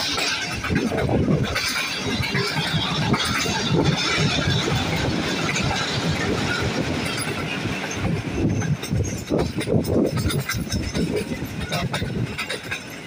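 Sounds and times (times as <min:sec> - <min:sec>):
train wheels on track: 0:00.0 - 0:13.0
wheels clattering on rails: 0:00.0 - 0:13.0.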